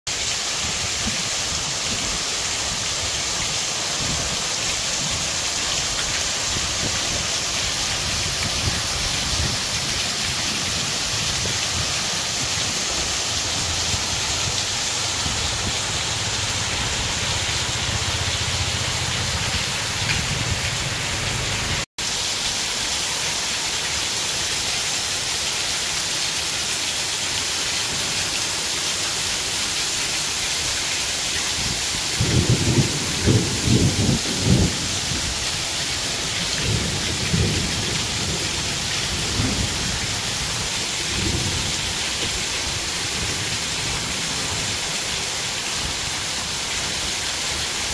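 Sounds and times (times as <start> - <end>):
heavy rain pouring: 0.1 - 47.9.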